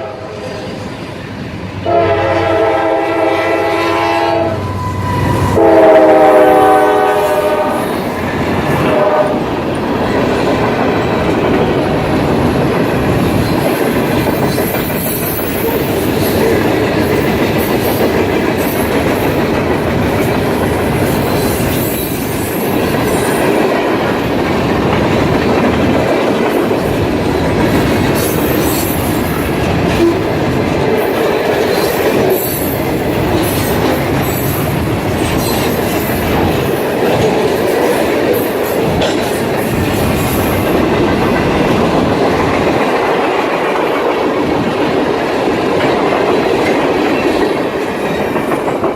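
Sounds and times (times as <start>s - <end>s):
train rumbling on rails: 0.0s - 48.9s.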